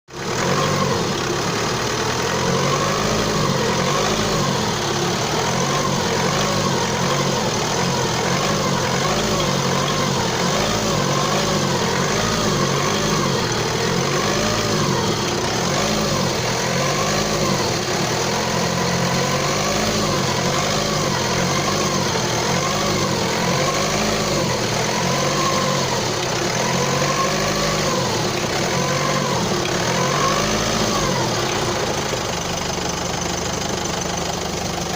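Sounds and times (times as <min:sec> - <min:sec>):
car engine idling: 0:00.1 - 0:34.9
wavering engine whine: 0:00.2 - 0:34.9.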